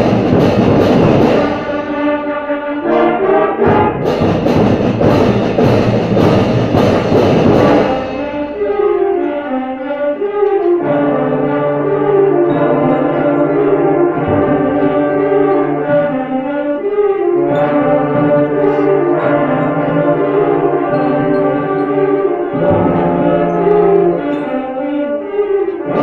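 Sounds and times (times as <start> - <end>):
brass-like chords: 0.0 - 26.0.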